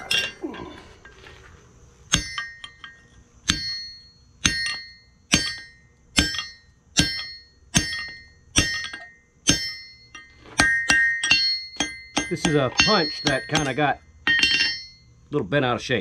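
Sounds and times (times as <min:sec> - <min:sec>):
hammer striking metal punch: 0:02.1 - 0:15.0.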